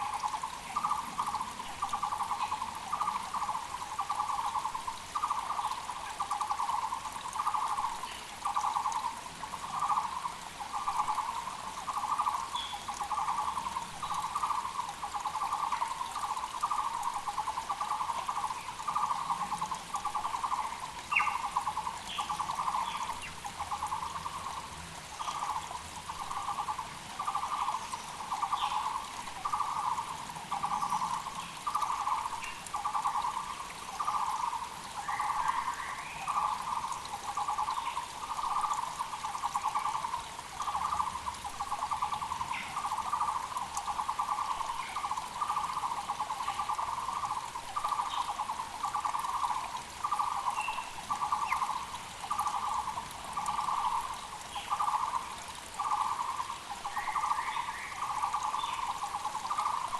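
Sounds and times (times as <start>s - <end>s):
creek rushing: 0.0s - 59.9s
small birds chirping: 0.0s - 59.9s.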